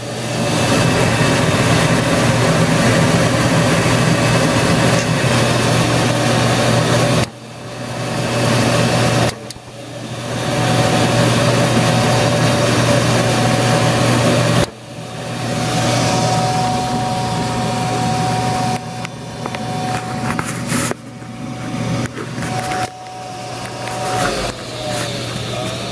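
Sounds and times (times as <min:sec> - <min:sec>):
furnace rushing and humming: 0:00.0 - 0:25.9.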